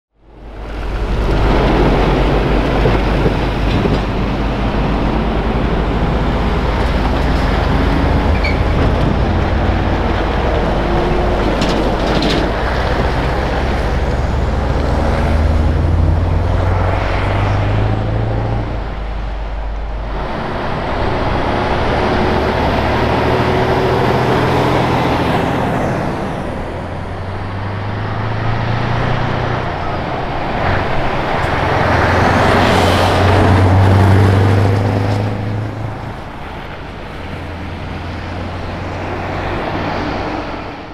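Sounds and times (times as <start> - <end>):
heavy truck traffic: 0.1 - 40.9
truck diesel engine accelerating: 0.1 - 40.9.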